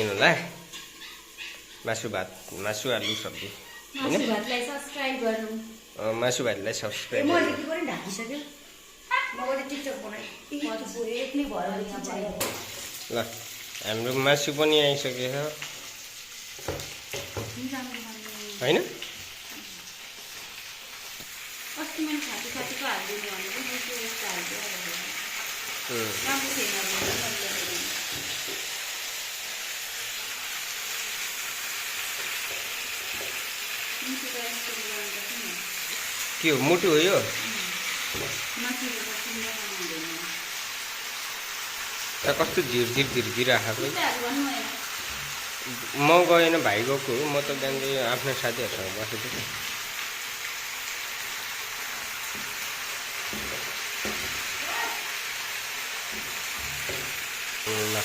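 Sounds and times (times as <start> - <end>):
chicken frying in oil: 0.0 - 58.0.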